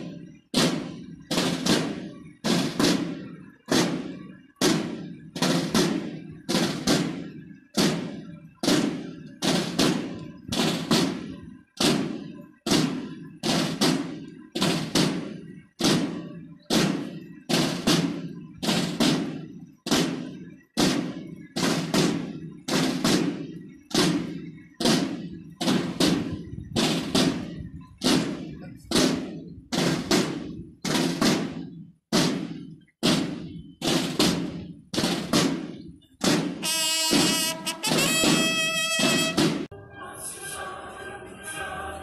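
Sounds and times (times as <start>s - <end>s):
drum struck in slow beat: 0.0s - 39.7s.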